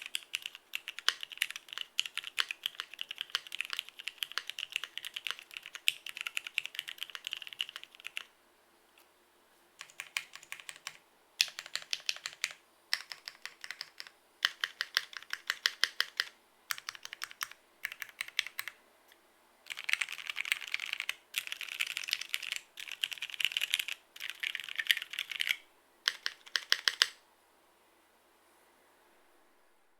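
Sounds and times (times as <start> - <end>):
typing on mechanical keyboard: 0.0 - 8.3, 9.8 - 18.8, 19.7 - 27.2.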